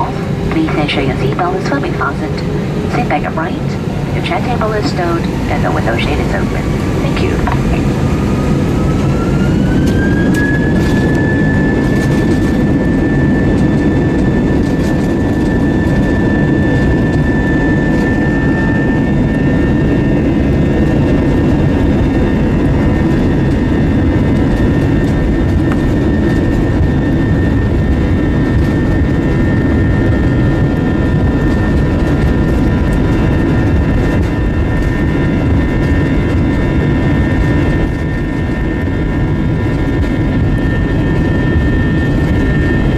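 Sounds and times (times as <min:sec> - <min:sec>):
high engine whine: 0:00.0 - 0:42.9
jet engines rumbling in cabin: 0:00.0 - 0:42.9.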